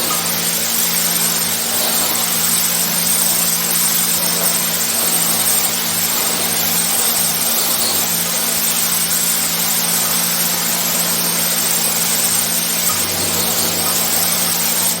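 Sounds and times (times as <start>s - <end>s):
motor hum: 0.0s - 15.0s.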